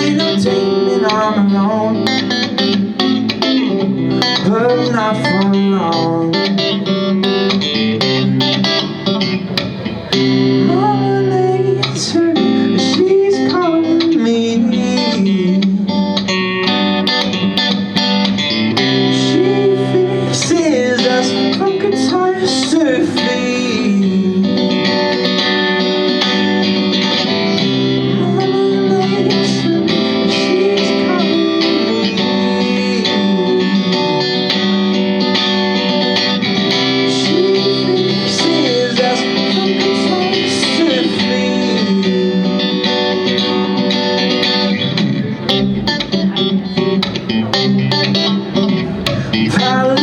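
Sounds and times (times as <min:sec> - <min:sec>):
low guitar chords: 0:00.0 - 0:50.0
sliding guitar notes: 0:00.0 - 0:50.0.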